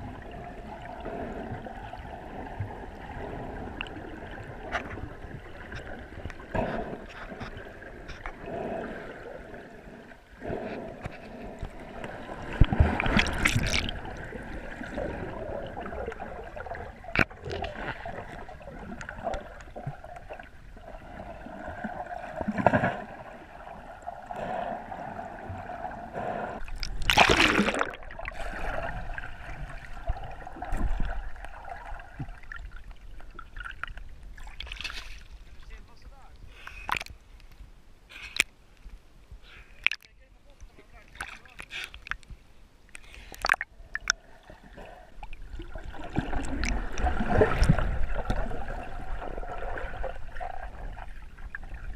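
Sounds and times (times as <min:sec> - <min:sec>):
rushes of water: 0:00.0 - 0:36.1, 0:42.9 - 0:51.9.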